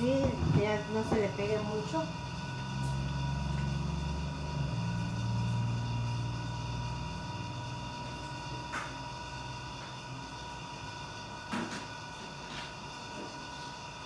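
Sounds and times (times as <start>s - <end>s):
low motor rumble: 0.0s - 11.3s.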